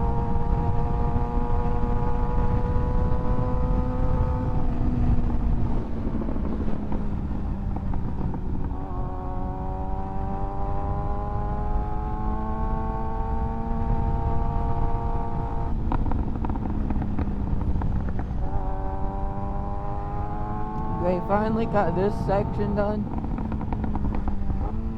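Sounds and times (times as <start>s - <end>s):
motorcycle engine revving: 0.0s - 24.9s
wind rush on microphone: 0.0s - 24.9s.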